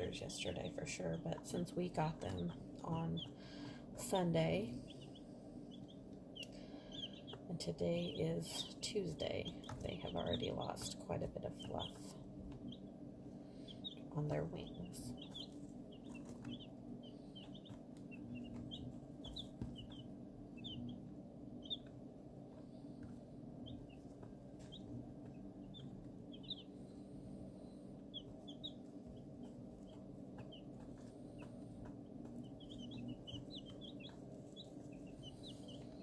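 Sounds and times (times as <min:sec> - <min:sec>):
chicks peeping: 0:00.0 - 0:36.0
steady low hum: 0:00.0 - 0:36.0.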